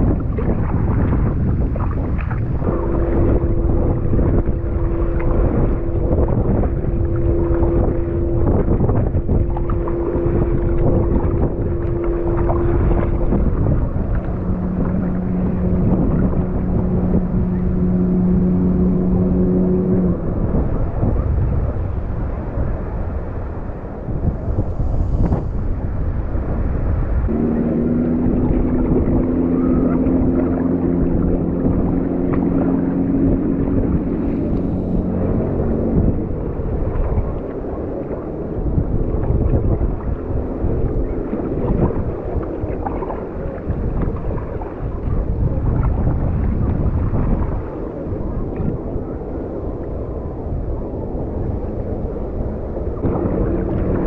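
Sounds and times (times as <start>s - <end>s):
engine droning: 0.0s - 54.0s
wind buffeting microphone: 0.0s - 54.0s.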